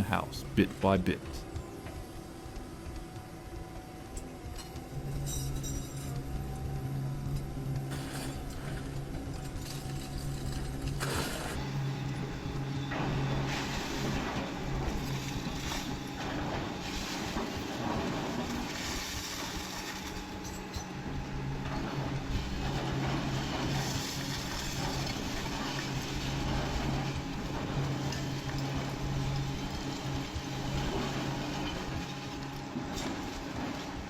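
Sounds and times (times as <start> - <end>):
diesel engine running: 0.1 - 34.0.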